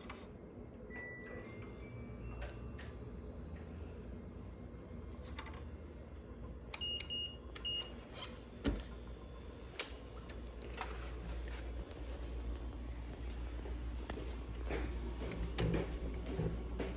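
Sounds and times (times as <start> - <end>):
steady low hum: 2.7 - 16.9.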